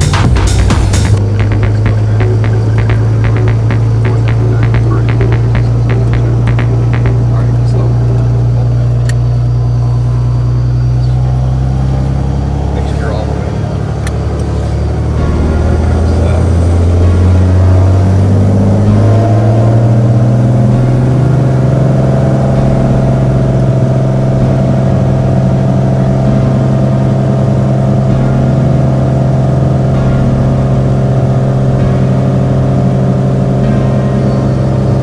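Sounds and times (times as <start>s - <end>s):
piston aircraft engine drone: 0.0s - 35.0s.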